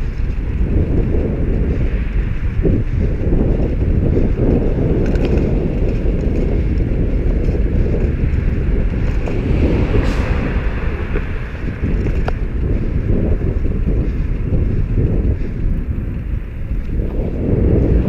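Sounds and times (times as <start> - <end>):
bicycle tyre noise: 0.0 - 18.0
street traffic: 0.0 - 18.0
wind buffeting microphone: 0.0 - 18.0.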